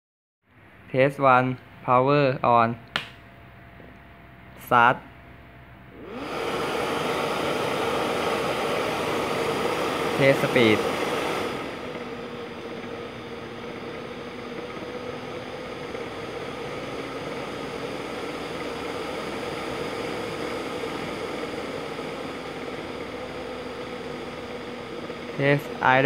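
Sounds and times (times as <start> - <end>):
fan whirring with airy hiss: 0.6 - 26.0
steady hum: 0.6 - 26.0.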